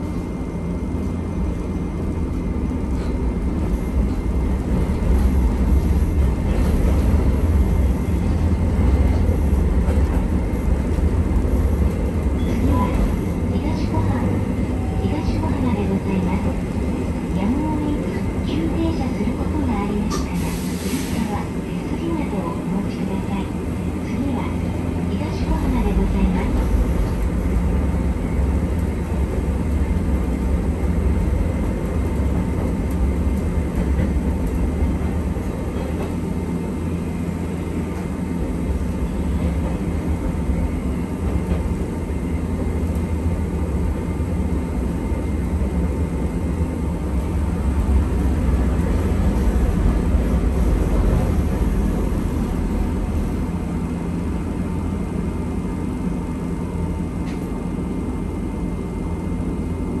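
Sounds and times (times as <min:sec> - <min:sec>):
streetcar rumbling: 0:00.0 - 1:00.0.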